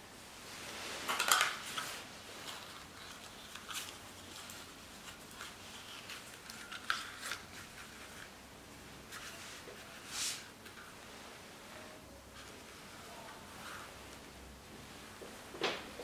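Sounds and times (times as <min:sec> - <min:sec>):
fabric rustling: 0:00.4 - 0:16.0.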